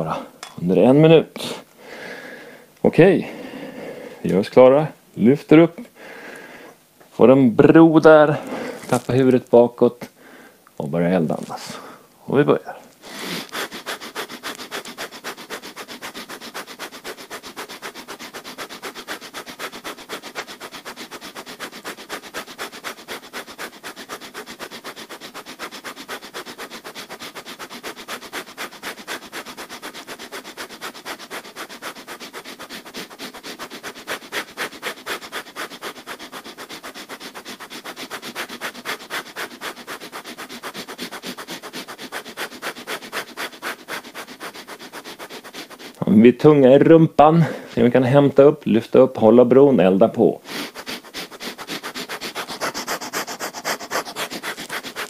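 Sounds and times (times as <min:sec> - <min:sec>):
rapid forced nasal breaths: 0:01.4 - 0:04.4, 0:05.8 - 0:06.9, 0:07.8 - 0:48.6, 0:49.2 - 0:55.0.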